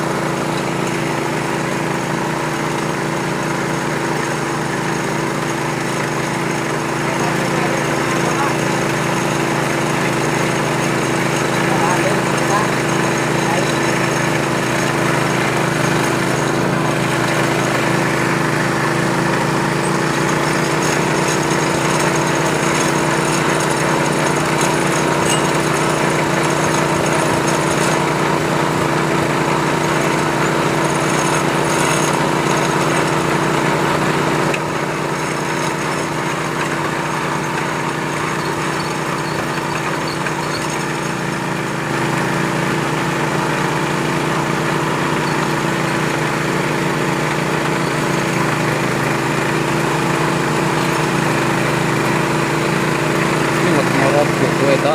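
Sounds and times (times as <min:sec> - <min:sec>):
well-drilling machine hum: 0:00.0 - 0:54.9.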